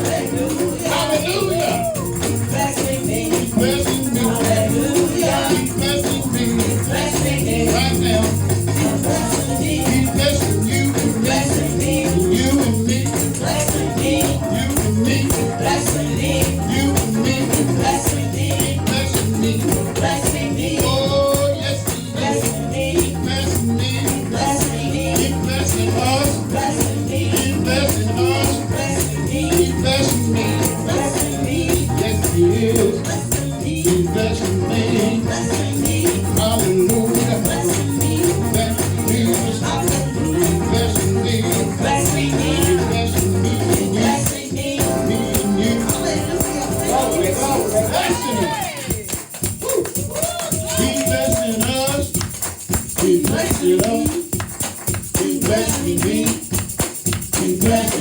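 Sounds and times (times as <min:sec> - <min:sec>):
gospel music with bass: 0:00.0 - 0:58.0
shaker or tambourine: 0:00.0 - 0:58.0
voices singing: 0:00.0 - 0:58.0.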